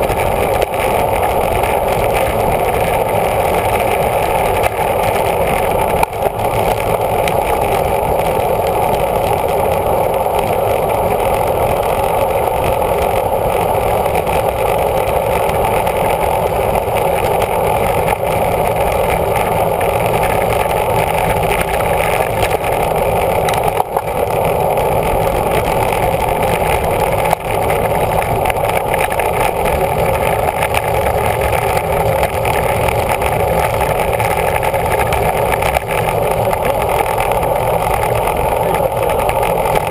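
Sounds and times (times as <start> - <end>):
wind roar on camera: 0.0 - 39.9.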